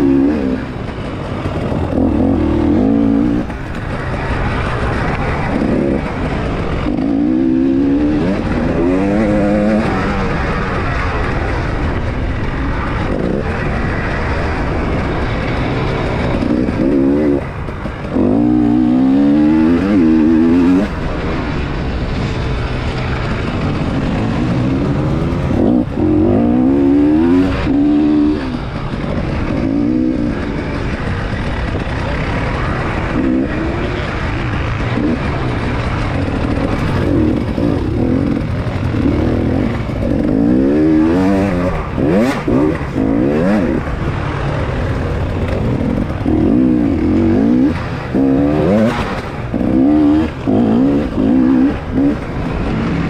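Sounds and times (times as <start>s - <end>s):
motorcycle engine revving: 0.0s - 53.0s
wind noise: 0.0s - 53.0s.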